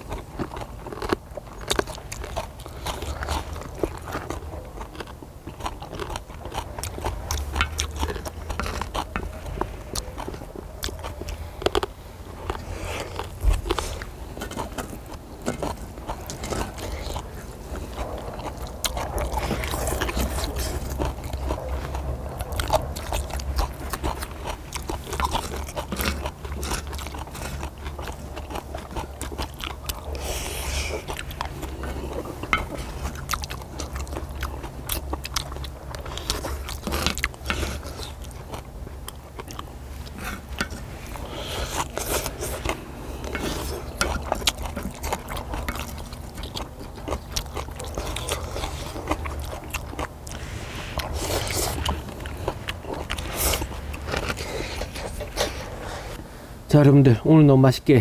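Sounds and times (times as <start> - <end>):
people chewing: 0.0 - 57.2
steady low hum: 0.0 - 58.0.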